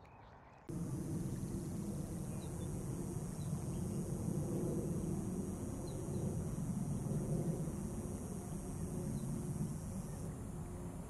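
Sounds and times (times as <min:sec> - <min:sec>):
high hiss: 0:00.7 - 0:11.0
low rumbling background noise: 0:00.7 - 0:11.0
small birds chirping: 0:00.7 - 0:11.0.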